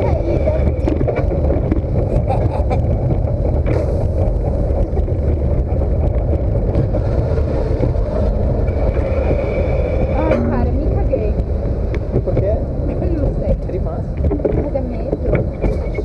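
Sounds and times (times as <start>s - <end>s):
amusement ride rumbling: 0.0s - 16.0s
wind buffeting microphone: 0.0s - 16.0s.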